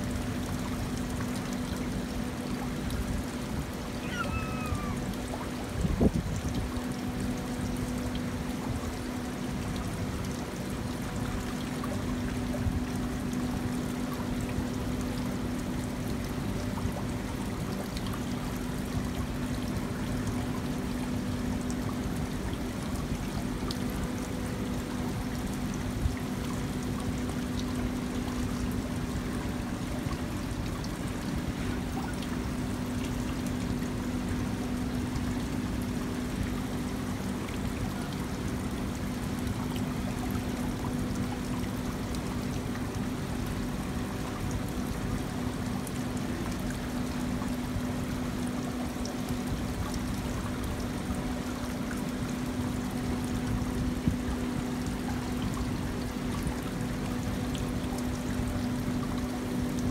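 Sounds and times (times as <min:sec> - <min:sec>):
water trickling down fountain: 0:00.0 - 0:59.9.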